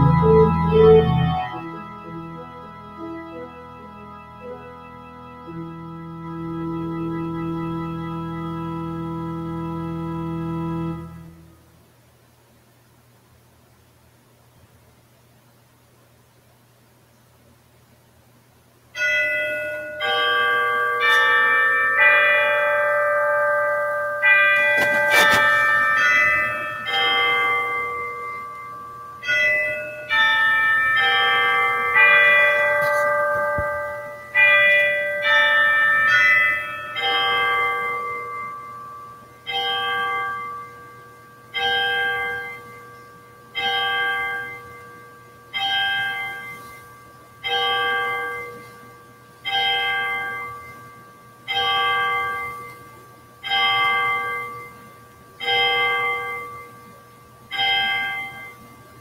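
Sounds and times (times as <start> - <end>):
bell striking slowly: 0.0 - 11.6, 19.0 - 59.0
church bells chiming: 0.0 - 11.6, 19.0 - 59.0.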